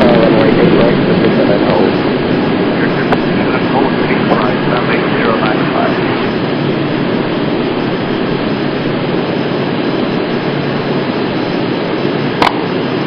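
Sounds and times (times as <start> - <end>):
jet engines at takeoff thrust: 0.0 - 13.0.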